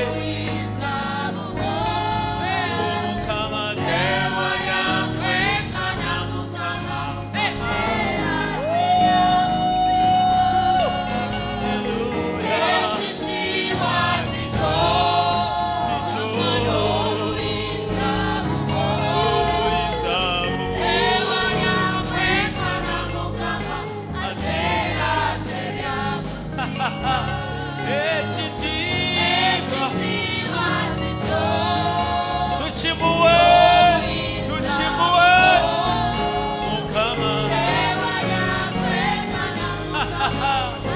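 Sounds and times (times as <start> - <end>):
choir singing gospel song: 0.0 - 40.9
instrumental backing: 0.0 - 40.9.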